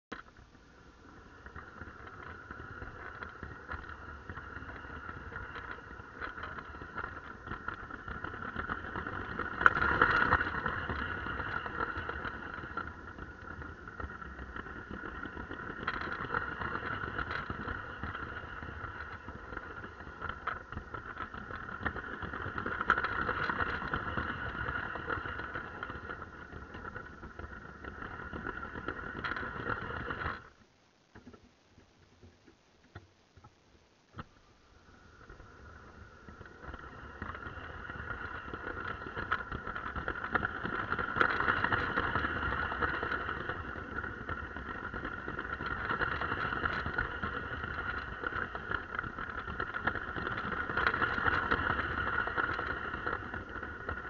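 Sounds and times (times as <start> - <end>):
wheels clicking over plastic track: 0.1 - 30.6, 34.2 - 54.0.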